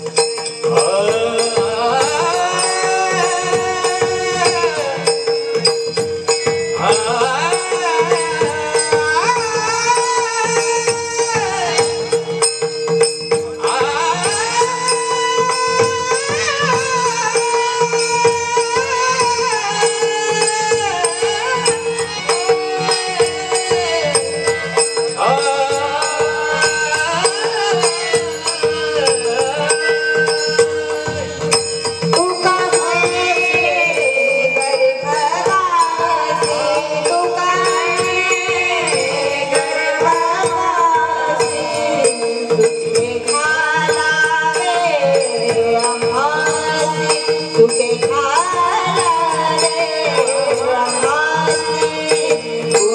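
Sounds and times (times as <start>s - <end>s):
jingling percussion: 0.0s - 52.9s.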